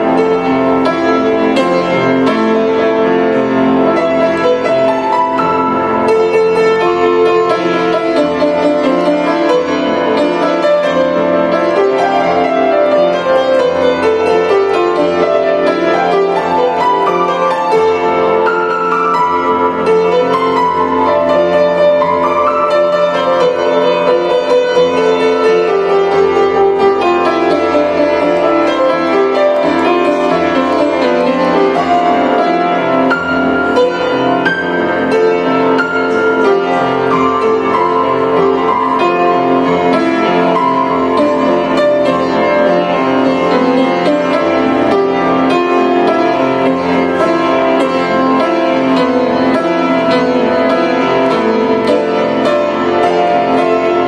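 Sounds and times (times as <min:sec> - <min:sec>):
grand piano playing: 0:00.0 - 0:54.0.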